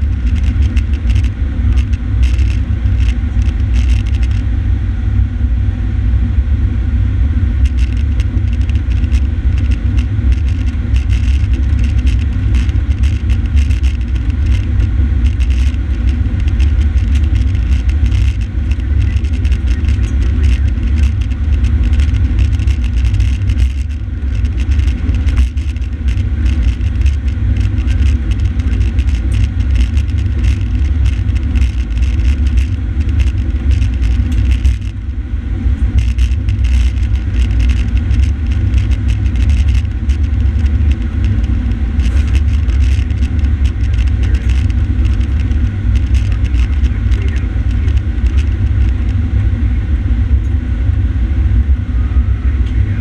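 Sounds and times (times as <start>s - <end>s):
light rattle: 0.0s - 4.5s, 7.6s - 49.6s
diesel engine rumble: 0.0s - 53.0s
road noise: 0.0s - 53.0s.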